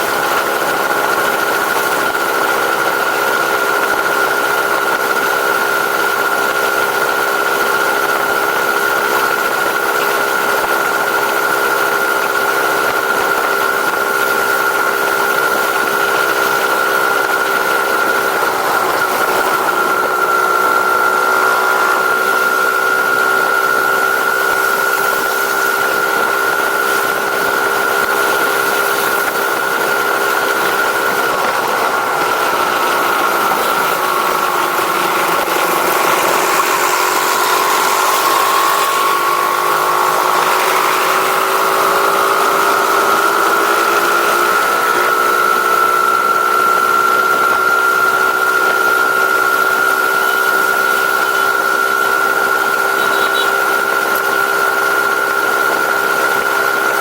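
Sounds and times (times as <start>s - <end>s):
vehicle engine running steadily: 0.0s - 57.0s.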